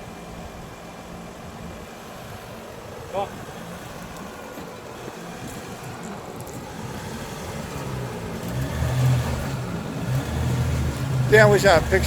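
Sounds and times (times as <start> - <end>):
truck engine pulling under load: 0.0 - 12.0.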